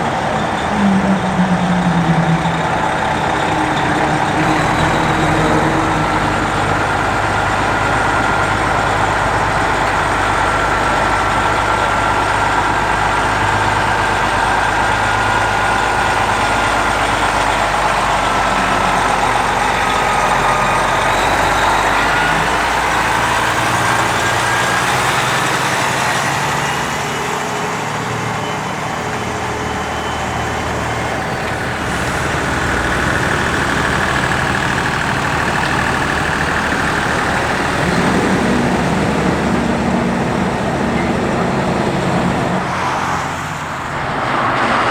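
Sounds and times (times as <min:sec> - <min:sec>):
diesel truck engine rumbling: 0:00.0 - 0:44.9.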